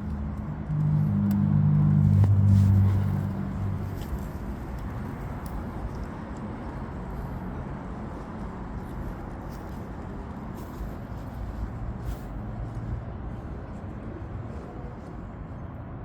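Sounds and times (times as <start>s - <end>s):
background traffic noise: 0.0s - 16.0s
passing vehicle hum: 0.0s - 16.0s.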